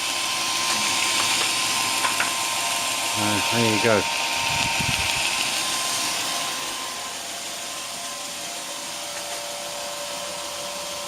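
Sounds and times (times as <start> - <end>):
belt grinder whirring: 0.0 - 10.8.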